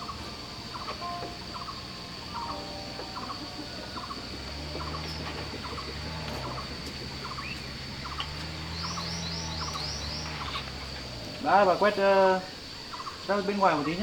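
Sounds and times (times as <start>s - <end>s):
birds calling: 0.0s - 14.0s
high insect whine: 0.0s - 14.0s.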